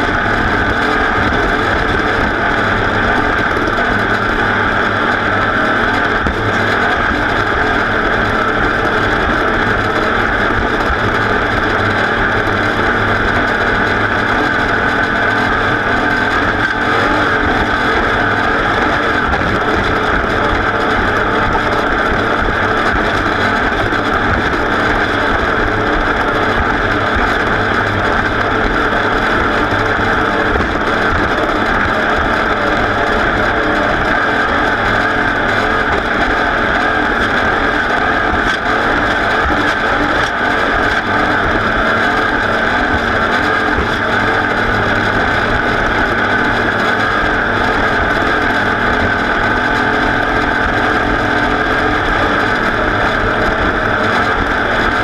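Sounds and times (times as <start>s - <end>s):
race vehicle engine running hard: 0.0s - 55.0s.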